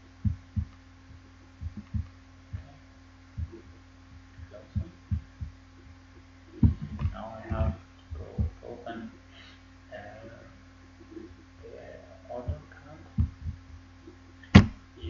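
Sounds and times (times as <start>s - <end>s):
dull low thumps: 0.0s - 8.8s, 11.0s - 15.0s
low electrical hum: 0.0s - 15.0s.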